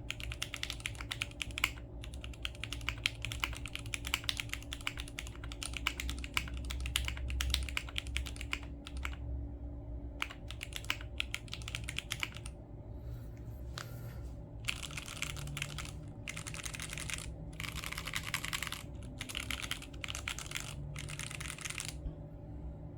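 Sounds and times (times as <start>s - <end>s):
fast typing on mechanical keyboard: 0.0s - 9.2s, 10.2s - 12.6s, 14.6s - 22.0s.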